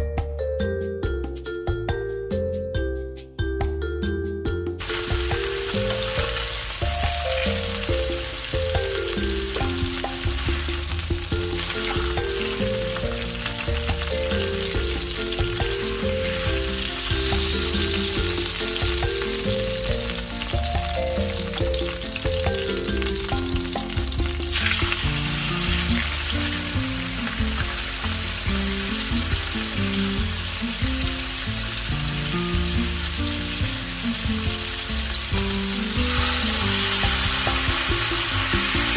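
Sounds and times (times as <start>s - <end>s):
light background music: 0.0s - 38.9s
chicken sizzling in hot oil: 4.8s - 38.9s.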